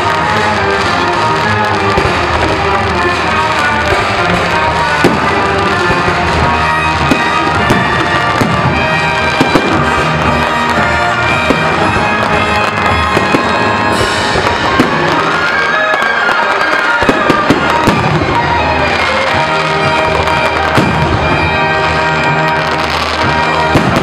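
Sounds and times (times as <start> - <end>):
fireworks bangs and crackles: 0.0 - 24.0
loud music from sound system: 0.0 - 24.0.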